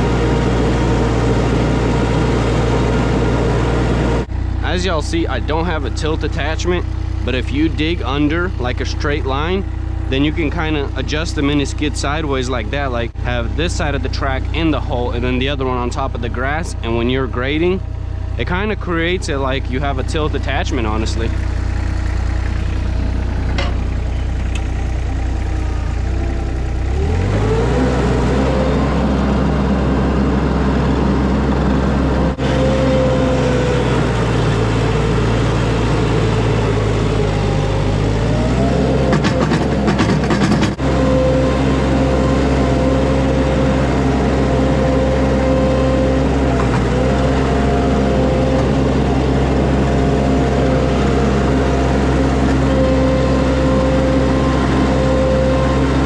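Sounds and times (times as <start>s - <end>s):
skid steer engine revving: 0.0s - 56.0s.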